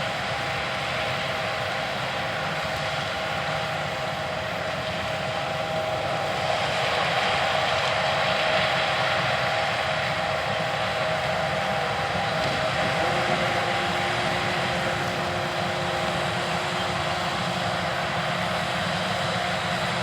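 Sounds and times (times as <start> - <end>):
combine harvester machinery drone: 0.0 - 20.0.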